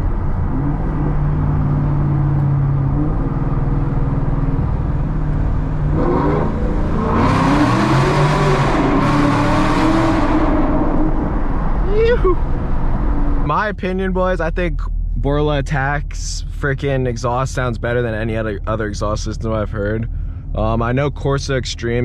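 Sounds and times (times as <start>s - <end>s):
car engine and exhaust: 0.0s - 22.0s.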